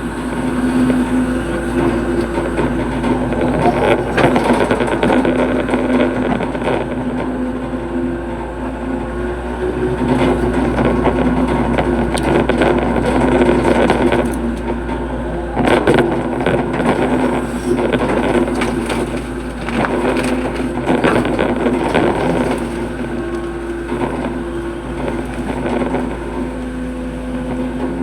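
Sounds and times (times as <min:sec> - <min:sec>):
diesel engine drone: 0:00.0 - 0:28.0.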